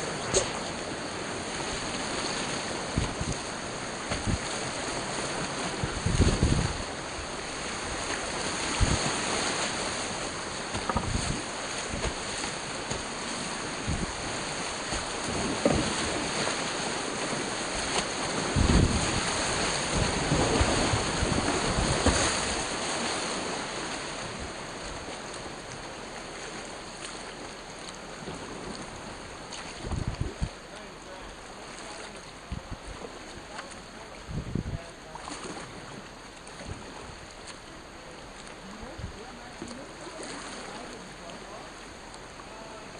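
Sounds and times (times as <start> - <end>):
whitewater creek rushing: 0.0 - 42.9.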